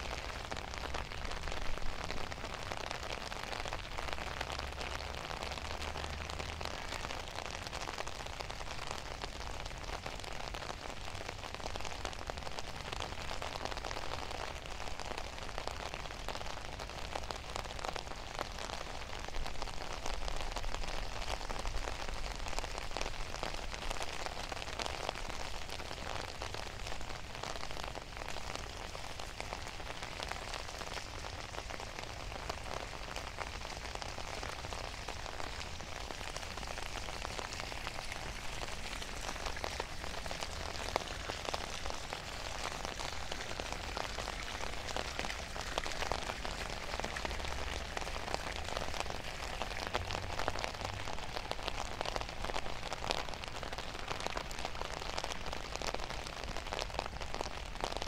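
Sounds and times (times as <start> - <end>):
rain drops pattering: 0.0 - 58.0.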